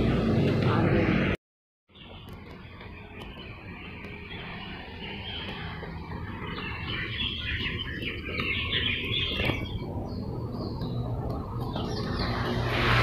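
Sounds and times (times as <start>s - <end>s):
birds chirping: 1.9s - 13.0s.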